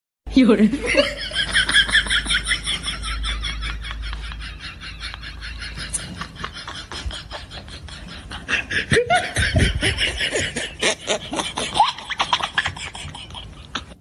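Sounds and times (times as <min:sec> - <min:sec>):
man laughing: 0:00.8 - 0:14.0.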